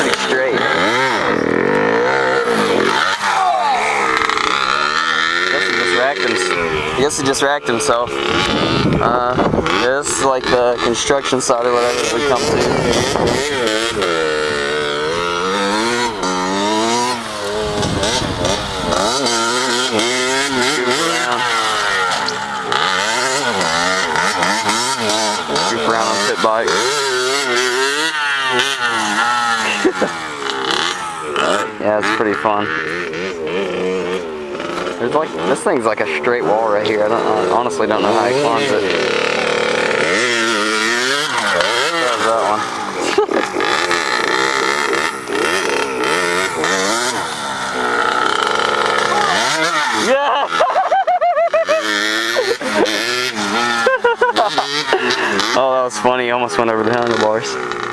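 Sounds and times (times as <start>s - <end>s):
pit bike engine revving: 0.0s - 57.9s.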